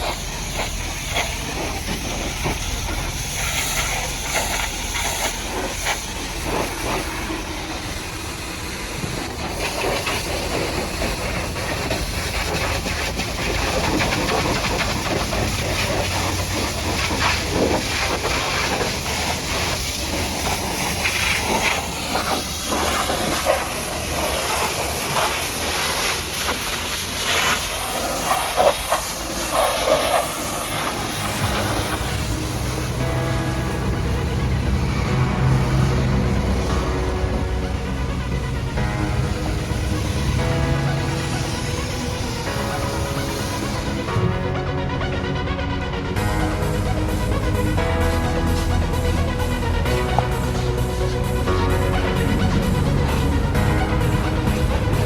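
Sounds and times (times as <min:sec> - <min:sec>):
pressure washer spraying: 0:00.0 - 0:55.0.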